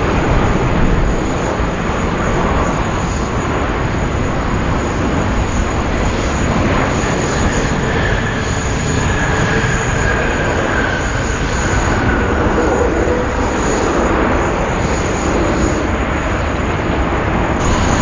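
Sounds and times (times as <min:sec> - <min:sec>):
faint whine: 0:00.0 - 0:16.8
jet engines rushing: 0:00.0 - 0:18.0.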